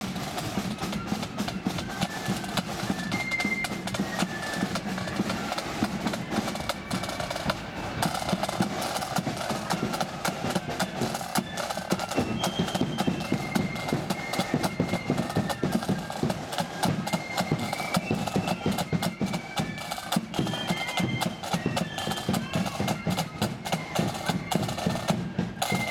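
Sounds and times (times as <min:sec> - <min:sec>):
flutes playing tune: 0:00.0 - 0:25.9
side drums beating march: 0:00.0 - 0:25.9.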